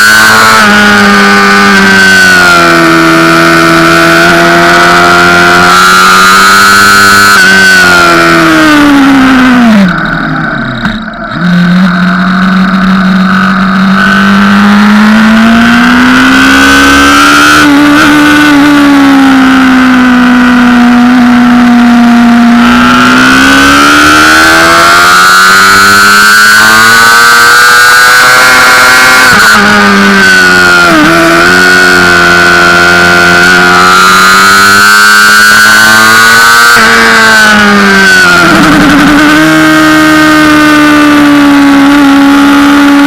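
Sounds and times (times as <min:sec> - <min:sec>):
motorcycle engine at speed: 0:00.0 - 0:43.0.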